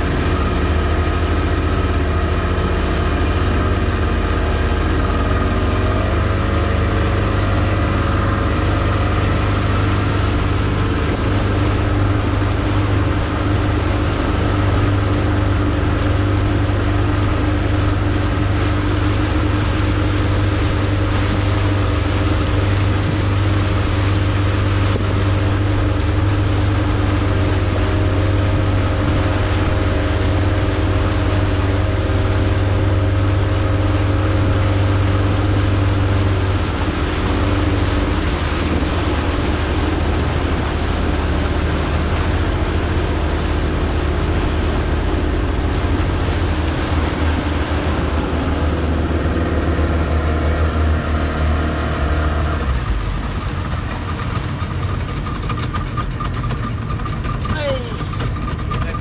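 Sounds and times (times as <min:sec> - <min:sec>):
outboard motor running: 0:00.0 - 0:59.0
water rushing past hull: 0:00.0 - 0:59.0.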